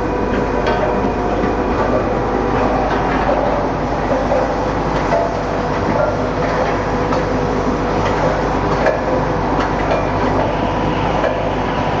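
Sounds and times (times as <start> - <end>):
machine rattle and hum: 0.0 - 12.0.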